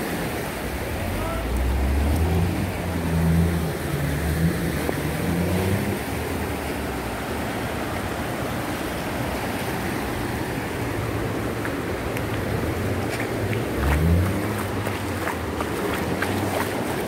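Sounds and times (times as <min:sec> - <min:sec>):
floodwater rushing through street: 0:00.0 - 0:17.0
heavy rain: 0:00.0 - 0:17.0
low engine hum: 0:00.0 - 0:17.0.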